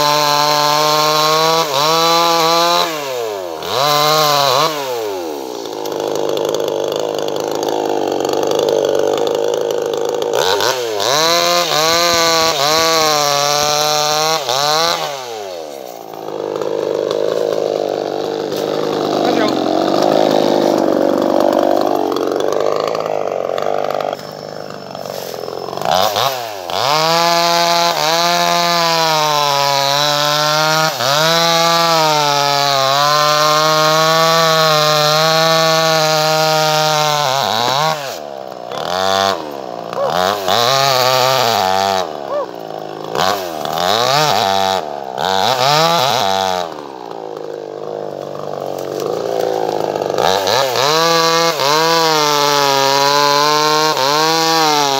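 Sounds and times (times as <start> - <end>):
chainsaw engine revving: 0.0 - 54.9.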